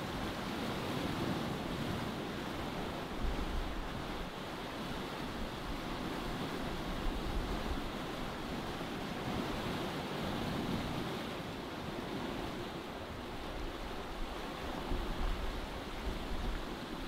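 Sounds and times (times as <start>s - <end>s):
water washing along hull: 0.0s - 17.0s.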